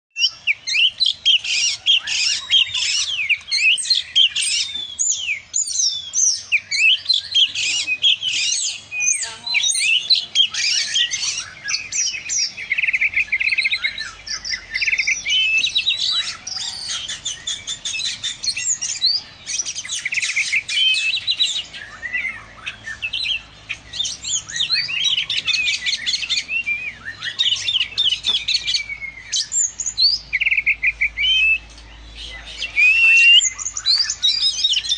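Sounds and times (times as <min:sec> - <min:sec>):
bird singing whistled notes: 0:00.1 - 0:34.9.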